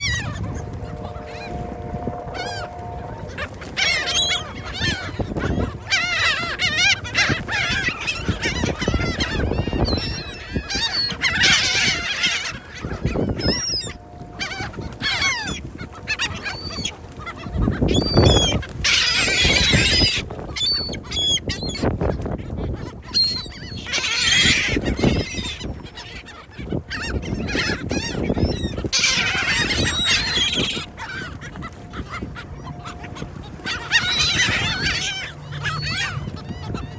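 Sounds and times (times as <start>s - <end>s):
gulls calling: 0.0s - 36.9s.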